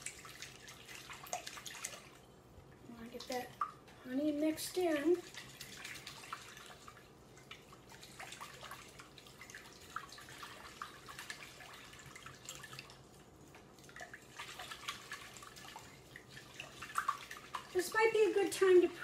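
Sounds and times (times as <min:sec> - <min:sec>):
liquid sloshing: 0:00.0 - 0:19.0.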